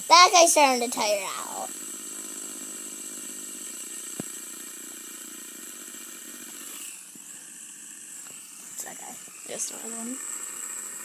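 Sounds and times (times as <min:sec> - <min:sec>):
fidget spinners whirring: 0:00.0 - 0:11.0.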